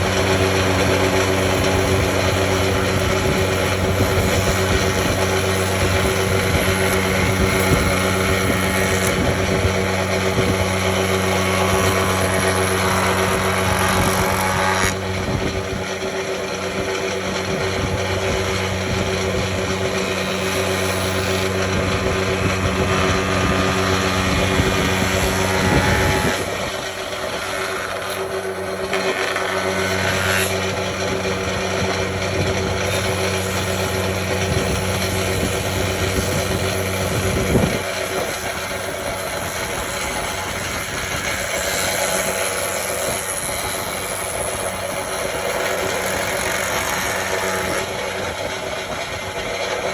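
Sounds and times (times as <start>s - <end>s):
electric power tool motor: 0.0s - 49.9s.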